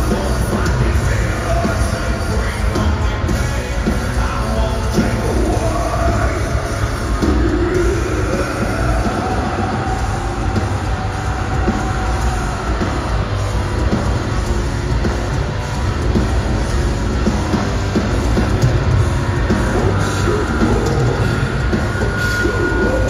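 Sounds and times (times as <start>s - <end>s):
heavy rock band playing live: 0.0s - 23.0s.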